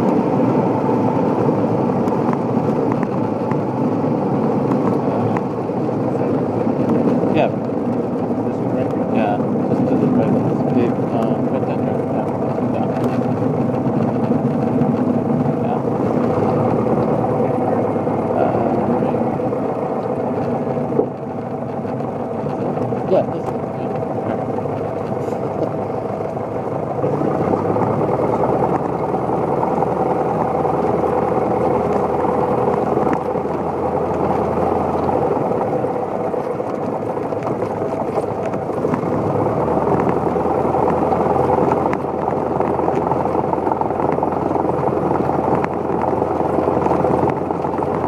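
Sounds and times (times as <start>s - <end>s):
car engine and tyre drone: 0.0s - 48.0s.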